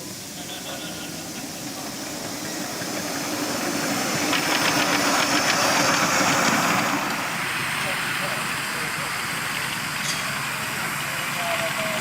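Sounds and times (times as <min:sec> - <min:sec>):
steam locomotive hissing and chuffing: 0:00.0 - 0:12.0.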